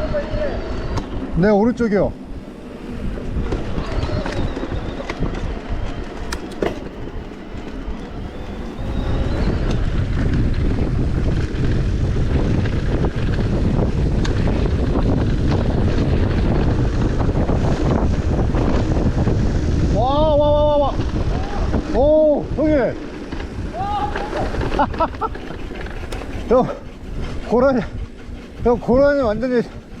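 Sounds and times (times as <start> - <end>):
bike rattling on trail: 0.0 - 30.0
wind buffeting microphone: 0.0 - 30.0.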